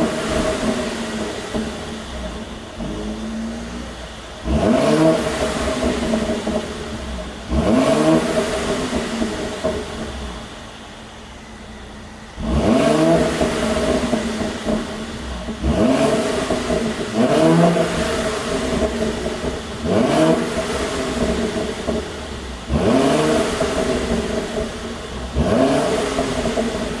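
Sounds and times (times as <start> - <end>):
exhaust pops and crackles: 0.0 - 10.8, 11.6 - 27.0
car engine idling and revving: 0.0 - 27.0.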